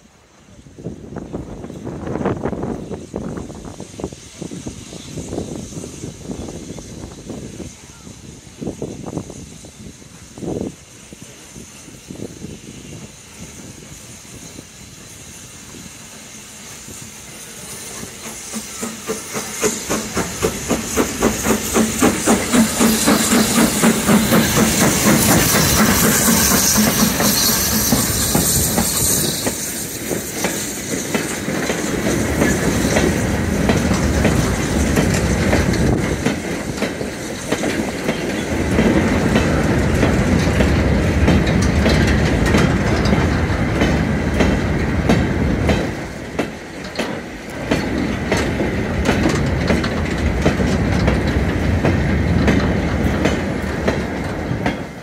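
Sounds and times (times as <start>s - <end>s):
steam locomotive exhaust beats: 0.3s - 55.0s
train wheels clickety-clack: 0.9s - 55.0s.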